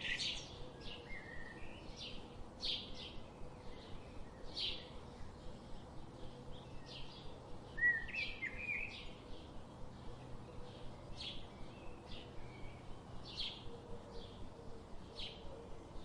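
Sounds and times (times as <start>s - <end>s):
background hiss: 0.0s - 16.0s
songbirds chirping: 0.0s - 16.0s.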